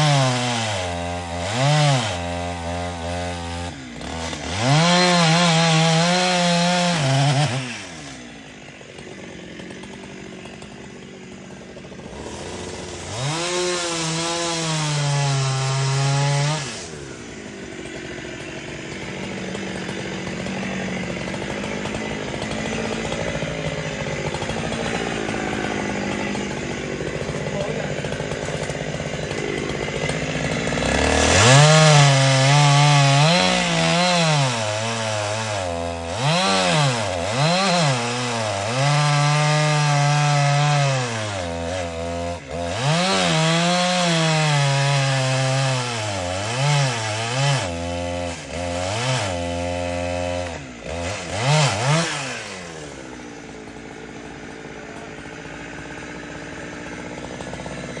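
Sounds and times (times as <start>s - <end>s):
chainsaw idling: 0.0s - 58.0s
chainsaw revving: 0.0s - 58.0s.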